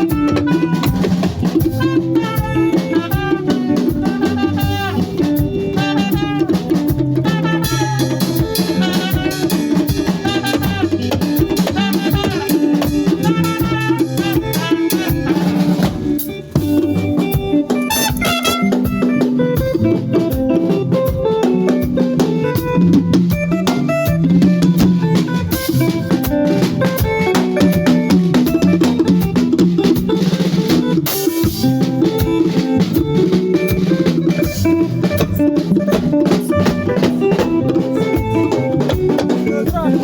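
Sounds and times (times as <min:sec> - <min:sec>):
drum kit beat: 0:00.0 - 0:40.0
melody instruments: 0:00.0 - 0:40.0.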